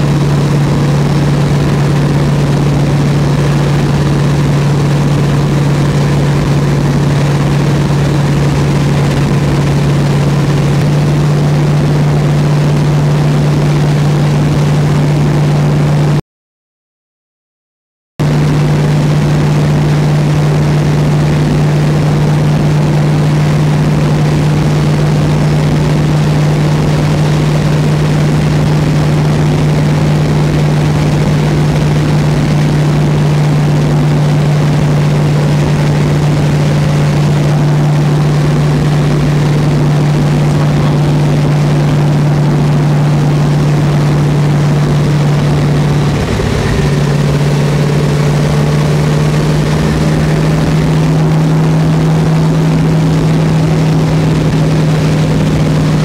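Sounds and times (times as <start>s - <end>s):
road noise: 0.0s - 16.2s, 18.2s - 56.0s
truck engine drone: 0.0s - 16.2s, 18.2s - 56.0s.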